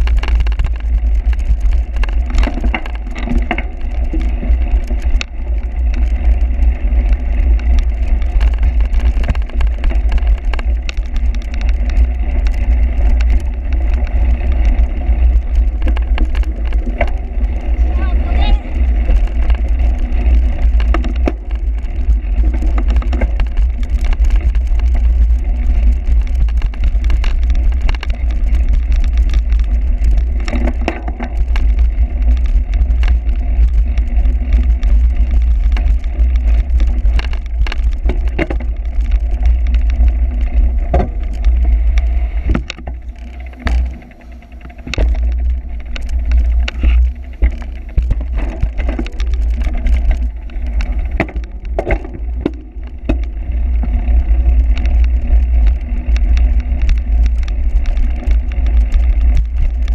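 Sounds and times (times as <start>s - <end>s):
bike knocking and rattling: 0.0s - 59.9s
wind rumble on microphone: 0.0s - 59.9s.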